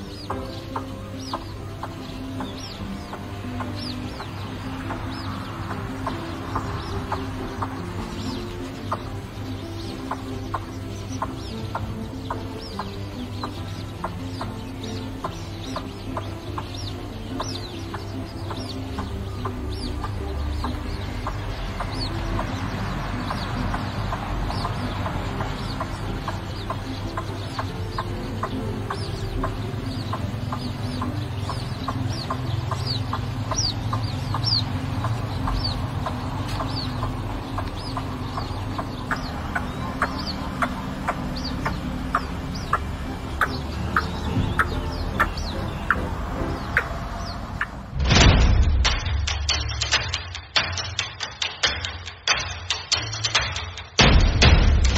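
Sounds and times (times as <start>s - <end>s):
birds clucking calls: 0.0s - 54.9s.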